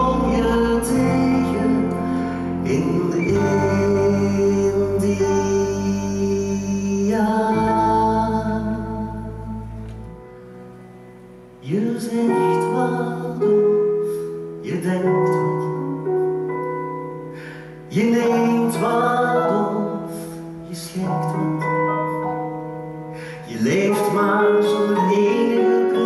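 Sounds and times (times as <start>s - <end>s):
musical theatre song: 0.0s - 26.0s
piano playing sustained chords: 0.0s - 26.0s.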